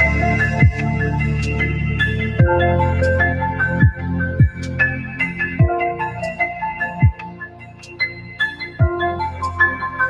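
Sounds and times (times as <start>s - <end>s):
bell-like synth notes: 0.0s - 10.0s.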